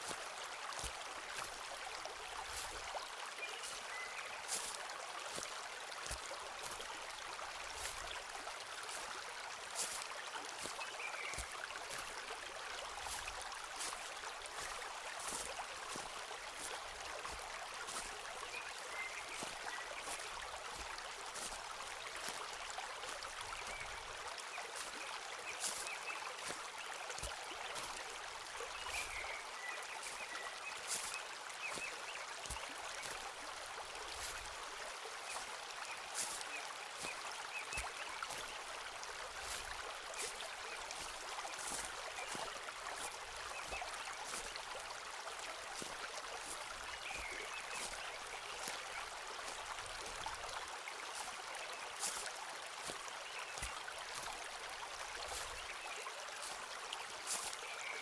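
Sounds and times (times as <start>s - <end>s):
footsteps crunching in forest: 0.0s - 58.0s
stream rushing: 0.0s - 58.0s.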